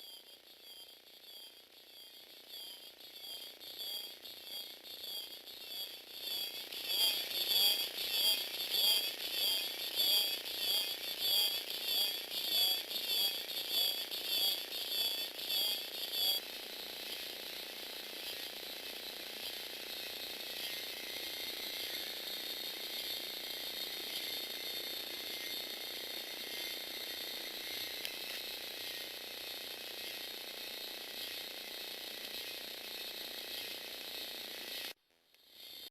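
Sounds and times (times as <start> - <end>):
toy motor and plastic gears running: 0.0 - 35.9.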